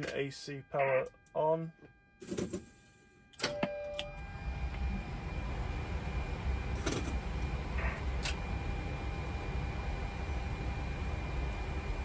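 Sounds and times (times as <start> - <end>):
electrical equipment whirring: 0.0 - 12.0.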